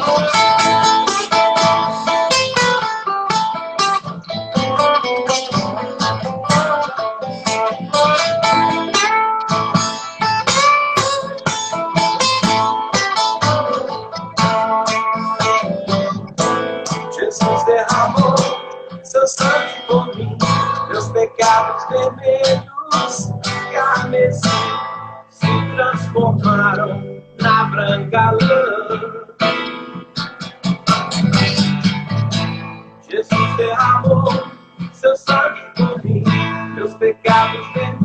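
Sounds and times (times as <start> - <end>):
acoustic guitar playing: 0.0 - 38.0.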